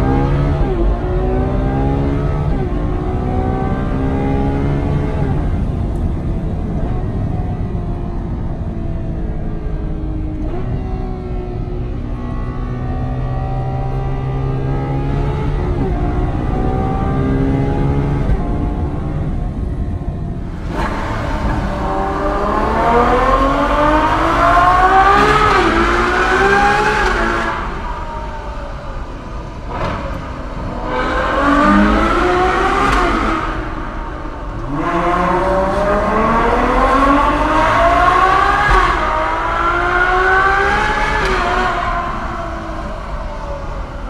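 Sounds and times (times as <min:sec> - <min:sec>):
car engine accelerating hard: 0:00.0 - 0:44.0.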